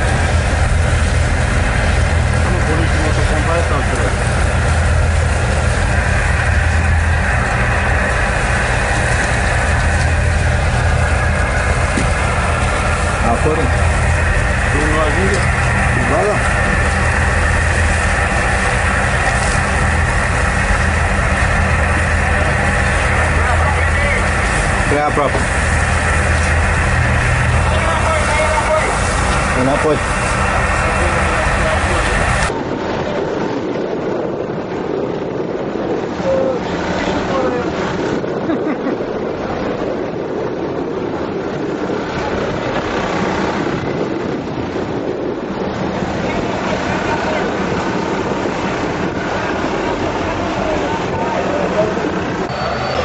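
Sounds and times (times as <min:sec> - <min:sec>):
boat engine droning: 0:00.0 - 0:53.0
wind noise on microphone: 0:00.0 - 0:53.0.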